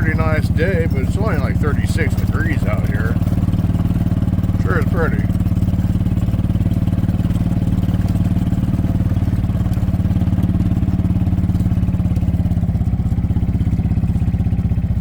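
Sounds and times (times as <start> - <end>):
engine throbbing steadily: 0.0 - 15.0.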